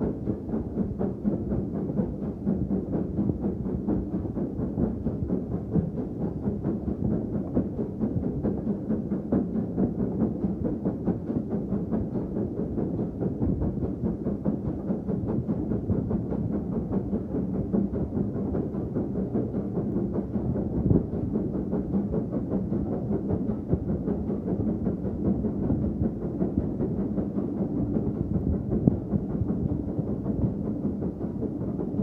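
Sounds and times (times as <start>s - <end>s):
train rumbling along tracks: 0.0s - 32.0s.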